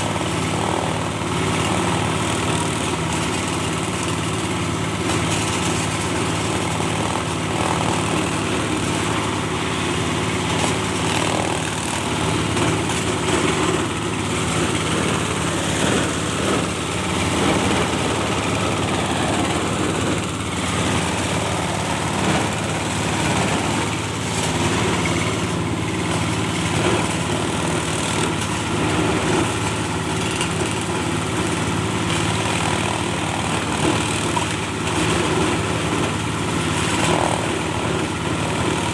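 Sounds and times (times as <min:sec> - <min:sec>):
grinding machine engine running: 0:00.0 - 0:38.9.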